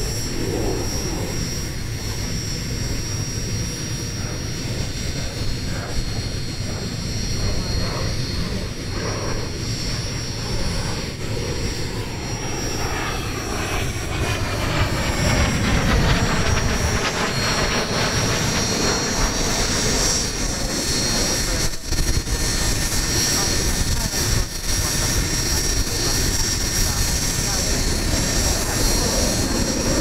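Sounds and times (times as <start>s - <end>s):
jet passing with whine: 0.0s - 30.0s.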